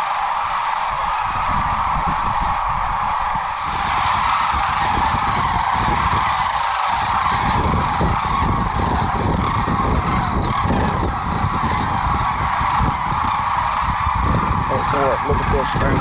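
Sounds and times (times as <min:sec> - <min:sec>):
cranes and geese calling: 0:00.0 - 0:16.0.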